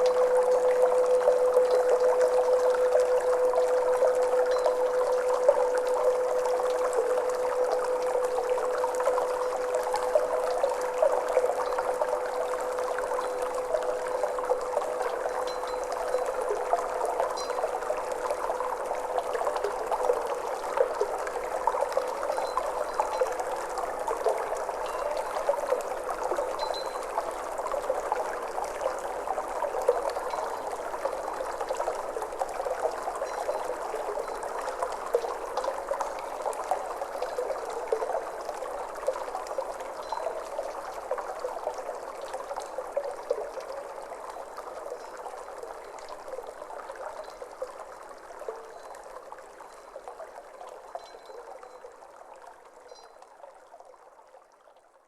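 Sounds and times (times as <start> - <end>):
singing bowl hum: 0.0 - 47.6
trickling water: 0.0 - 55.0.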